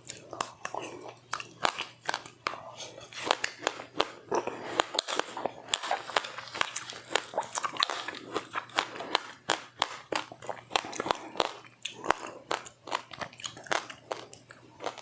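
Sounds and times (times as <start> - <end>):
chewing crunchy seeds: 0.0 - 15.0.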